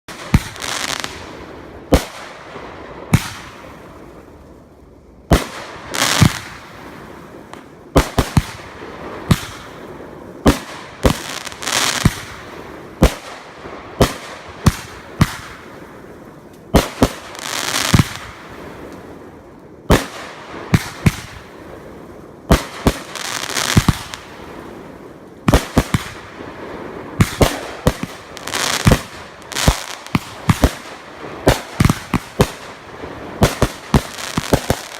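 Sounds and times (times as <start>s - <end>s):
fireworks crackling shower: 0.0s - 34.9s
fireworks banging: 0.1s - 4.3s, 5.3s - 19.1s, 22.5s - 34.9s.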